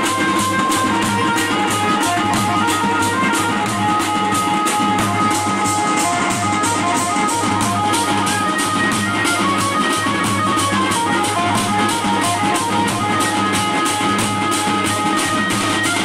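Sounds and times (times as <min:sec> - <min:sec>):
fast steady drum beat: 0:00.0 - 0:16.0.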